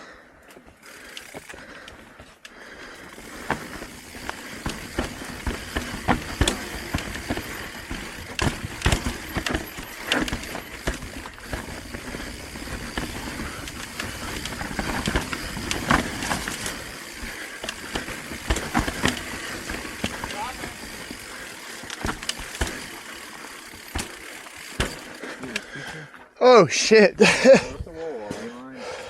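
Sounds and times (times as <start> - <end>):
mountain bike clattering: 0.4 - 26.2.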